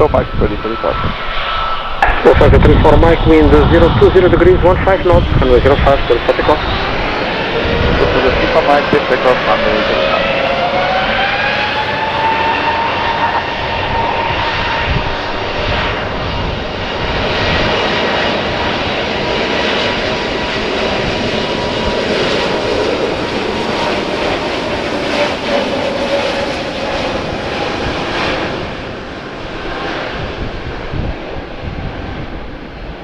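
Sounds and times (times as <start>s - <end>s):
jet engines at takeoff: 0.0s - 33.0s.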